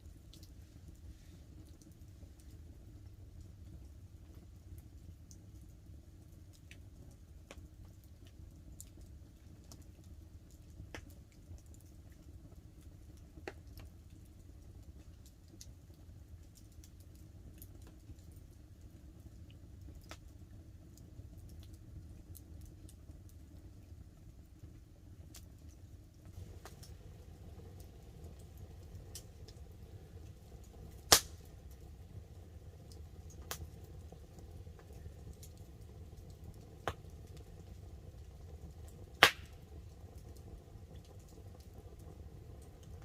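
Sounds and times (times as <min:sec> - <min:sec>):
rain falling on a tarp: 0:00.0 - 0:43.0
wood fire crackling and popping: 0:00.0 - 0:43.0.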